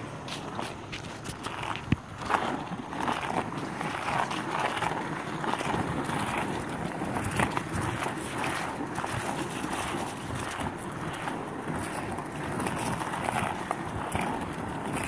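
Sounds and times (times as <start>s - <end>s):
skateboard wheels rolling on asphalt: 0.0s - 15.0s.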